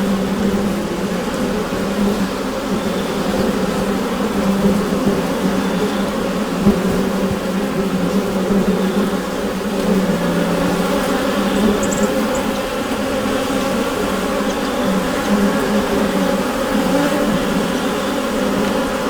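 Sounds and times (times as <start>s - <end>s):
bees buzzing in a hive: 0.0s - 19.0s.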